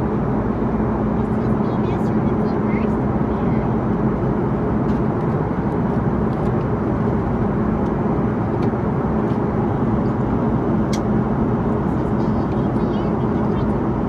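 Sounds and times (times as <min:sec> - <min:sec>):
aircraft cabin engine and airflow rush: 0:00.0 - 0:14.0.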